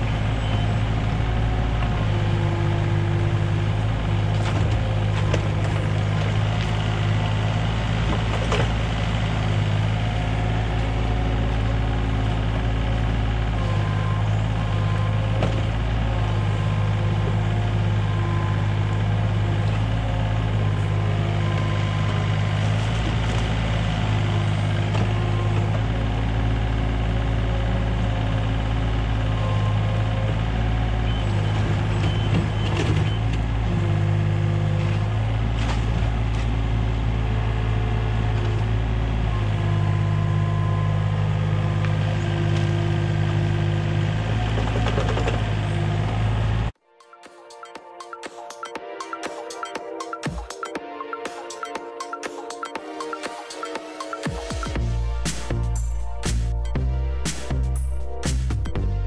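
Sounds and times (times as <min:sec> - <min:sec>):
excavator diesel engine running: 0:00.0 - 0:46.8, 0:47.4 - 0:59.0.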